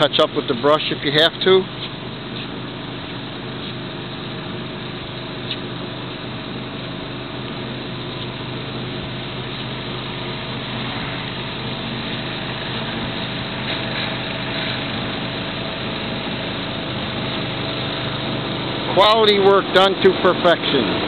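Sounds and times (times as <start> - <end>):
engine-driven pump humming: 0.0 - 21.0.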